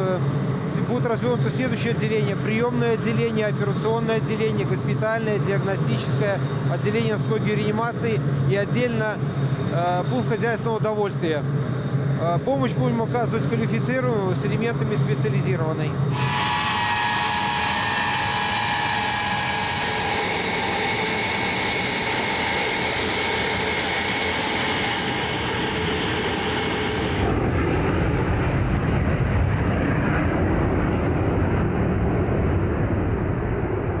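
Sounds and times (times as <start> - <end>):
jet engines whining: 0.0 - 31.0
jet climbing after takeoff: 0.0 - 34.0.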